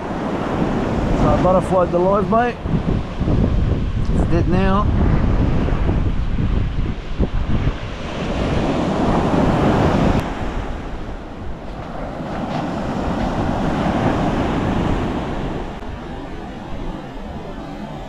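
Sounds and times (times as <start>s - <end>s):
ocean surf breaking on beach: 0.0s - 18.0s
wind rumbling on microphone: 0.0s - 18.0s.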